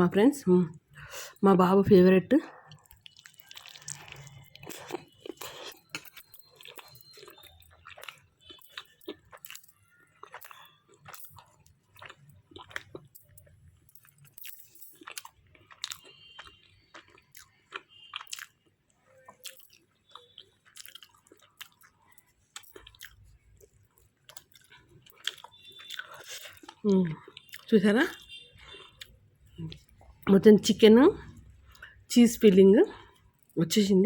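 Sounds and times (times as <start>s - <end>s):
person chewing food: 2.5s - 30.3s, 31.2s - 32.0s.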